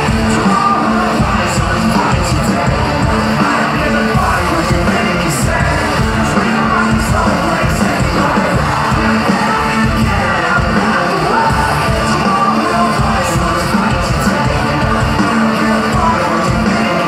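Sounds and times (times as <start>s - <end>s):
drums: 0.0s - 17.0s
guitars: 0.0s - 17.0s
live rock band over loudspeakers: 0.0s - 17.0s.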